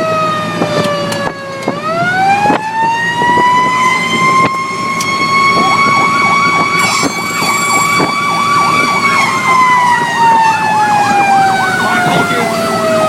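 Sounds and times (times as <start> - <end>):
siren wailing: 0.0 - 13.0
siren yelping: 0.0 - 13.0.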